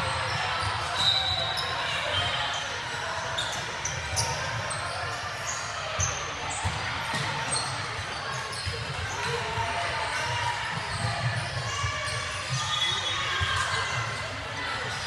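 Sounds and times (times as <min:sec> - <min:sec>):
sneaker squeaks: 0:00.0 - 0:15.0.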